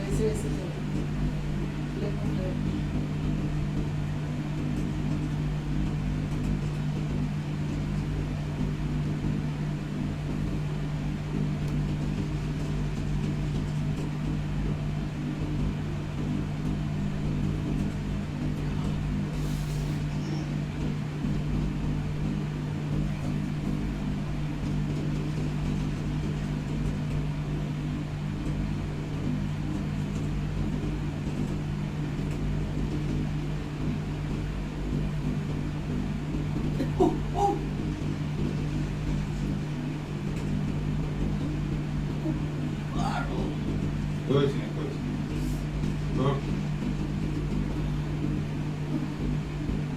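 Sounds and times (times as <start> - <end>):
low machine hum: 0.0 - 49.9.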